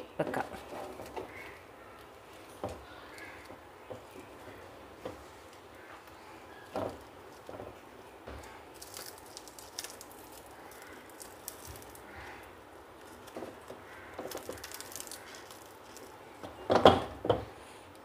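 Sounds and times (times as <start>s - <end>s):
leaf rustling and crinkling: 0.3s - 16.7s.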